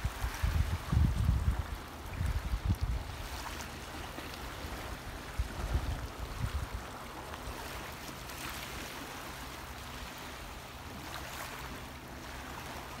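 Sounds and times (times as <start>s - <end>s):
water lapping at pebble shore: 0.0s - 13.0s.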